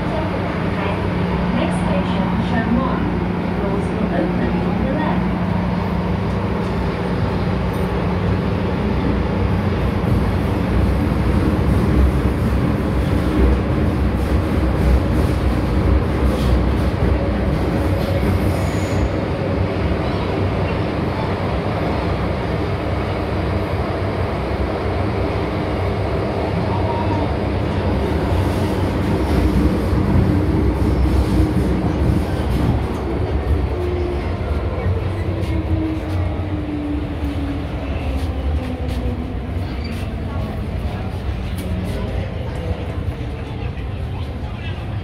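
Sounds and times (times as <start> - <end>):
metro train wheels rumbling on rail: 0.0 - 45.0.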